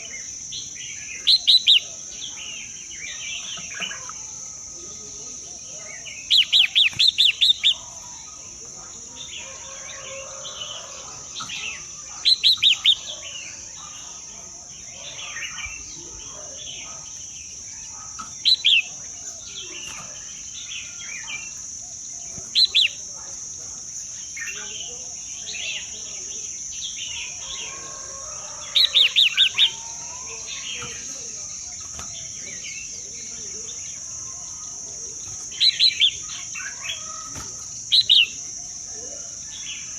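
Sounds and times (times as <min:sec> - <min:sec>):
soft scattered chirping: 0:00.0 - 0:39.9.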